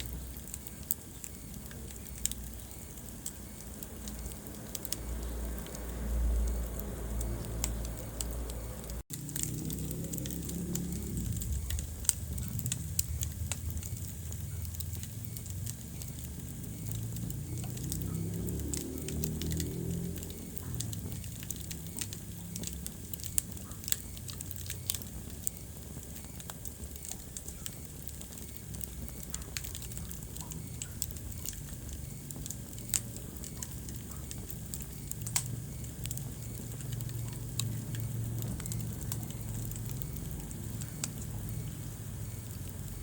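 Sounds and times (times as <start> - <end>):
fire crackling and popping: 0.0 - 43.0
low rumble of flames: 0.0 - 43.0.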